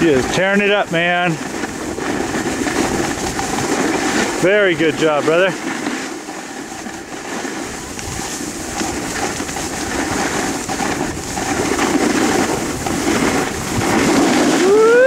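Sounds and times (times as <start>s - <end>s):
snowboard scraping over snow: 0.0s - 15.0s
wind rushing over microphone: 0.0s - 15.0s.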